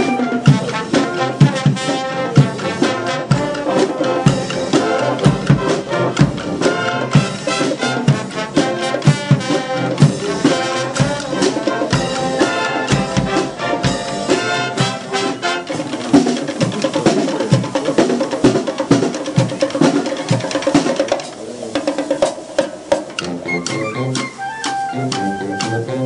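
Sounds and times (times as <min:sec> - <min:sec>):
brass band playing chords: 0:00.0 - 0:26.0
snare and bass drums: 0:00.0 - 0:26.0.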